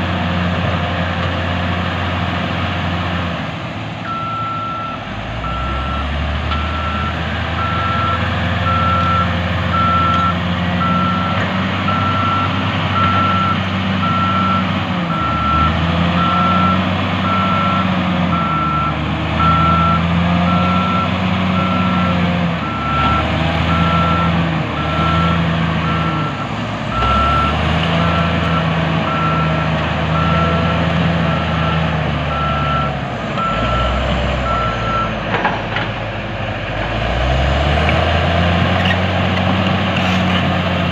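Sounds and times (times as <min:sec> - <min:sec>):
loud diesel engine: 0:00.0 - 0:40.9.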